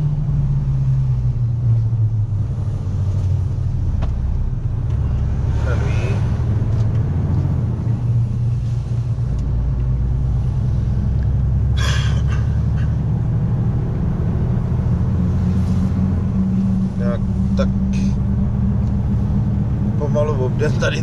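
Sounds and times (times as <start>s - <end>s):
vehicle driving on road: 0.0s - 21.0s.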